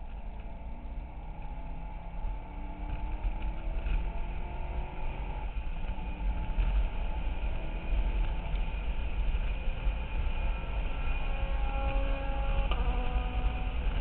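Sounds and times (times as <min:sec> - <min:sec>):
car engine accelerating: 0:00.0 - 0:14.0
wind and road noise rumble: 0:00.0 - 0:14.0.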